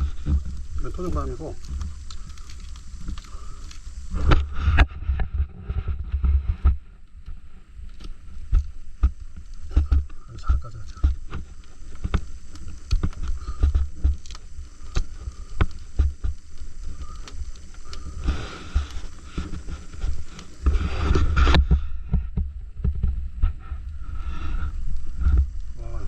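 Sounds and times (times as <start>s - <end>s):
sharp clicks and cracks: 0.0s - 26.0s.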